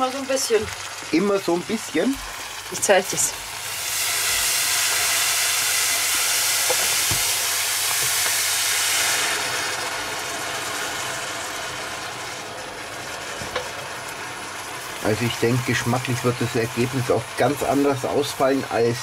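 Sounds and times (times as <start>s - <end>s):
vegetables sizzling in hot fat: 0.0s - 19.0s
broth being poured: 0.8s - 19.0s.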